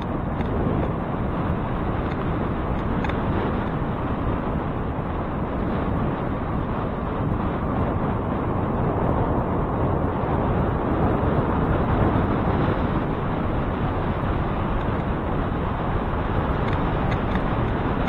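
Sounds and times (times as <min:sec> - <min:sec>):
low traffic rumble: 0:00.0 - 0:18.0
wind rushing on microphone: 0:00.0 - 0:18.0.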